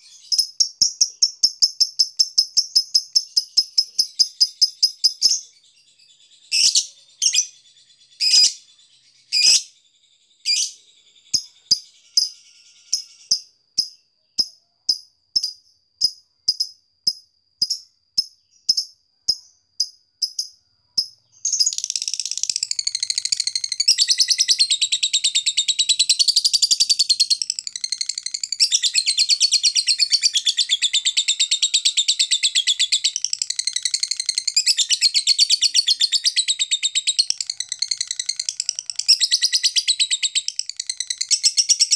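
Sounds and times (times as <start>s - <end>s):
lovebird chirping and trilling: 0.0s - 16.8s, 17.6s - 41.9s.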